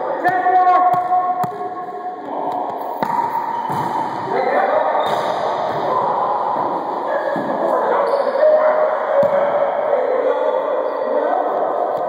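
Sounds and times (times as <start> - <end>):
echoing overlapping voices: 0.0 - 12.0.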